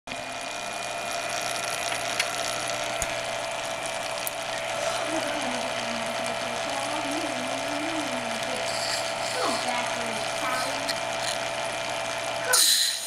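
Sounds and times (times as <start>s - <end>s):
induction heater buzzing hum: 0.1s - 13.0s.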